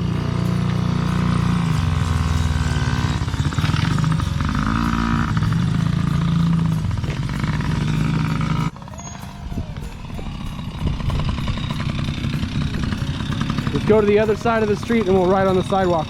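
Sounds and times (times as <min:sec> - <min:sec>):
dirt bike engines running: 0:00.0 - 0:16.0.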